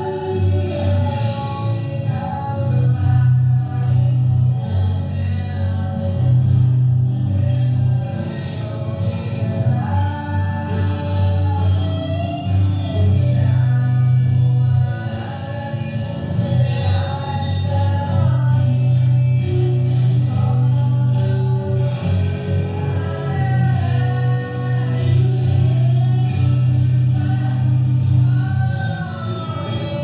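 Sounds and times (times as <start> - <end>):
person singing: 0.0 - 30.0
steady bass line: 0.0 - 30.0.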